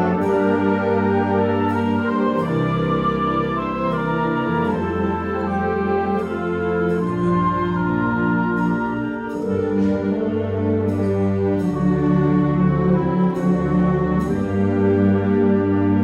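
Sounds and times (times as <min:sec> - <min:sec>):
concert band playing: 0:00.0 - 0:16.0.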